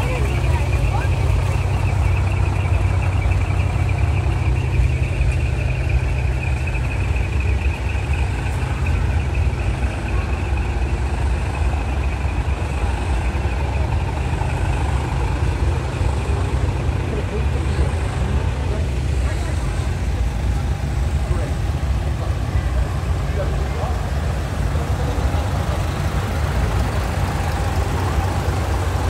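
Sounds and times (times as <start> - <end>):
truck engines idling: 0.0 - 29.0.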